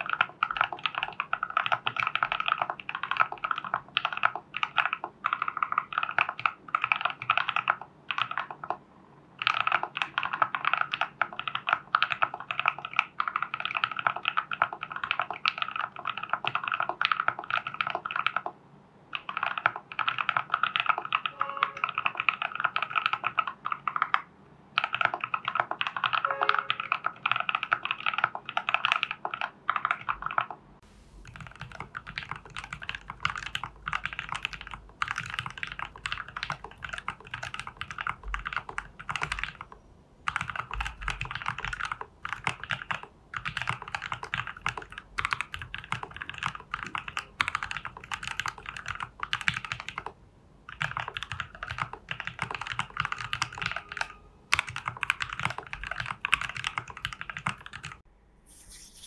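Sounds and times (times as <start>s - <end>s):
mechanical keyboard typing: 0.0s - 8.8s, 9.4s - 30.6s, 31.2s - 59.0s.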